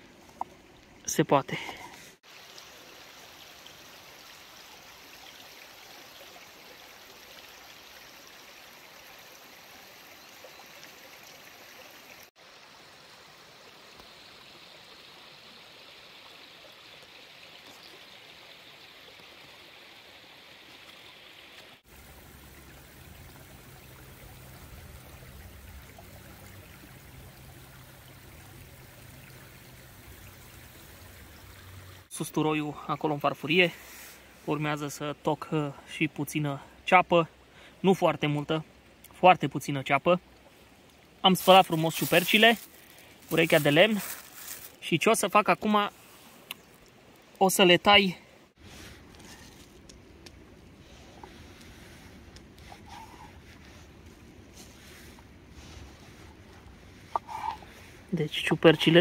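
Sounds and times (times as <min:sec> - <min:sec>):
forest stream running: 0:00.0 - 0:59.0.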